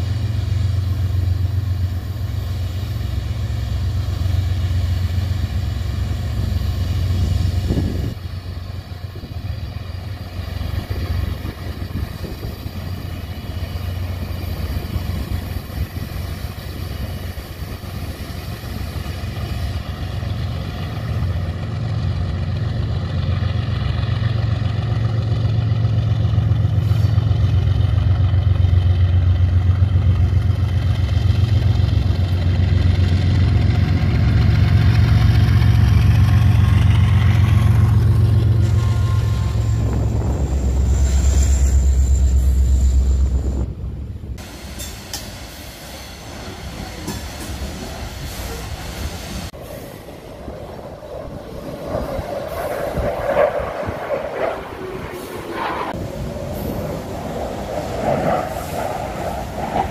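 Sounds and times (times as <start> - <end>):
train passing with engine drone: 0.0 - 59.9.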